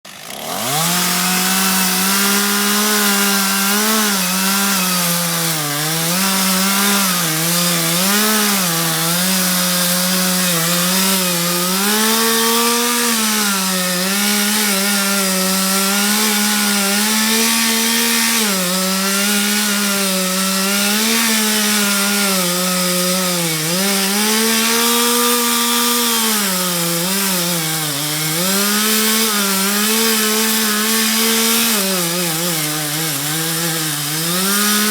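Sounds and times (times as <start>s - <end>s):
chainsaw cutting through wood: 0.0s - 34.9s.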